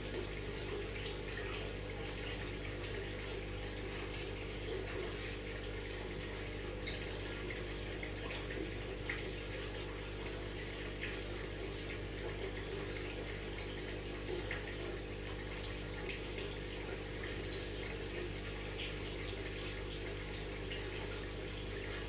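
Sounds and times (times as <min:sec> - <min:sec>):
aquarium water trickling: 0:00.0 - 0:22.0
faint small drips: 0:00.0 - 0:22.0.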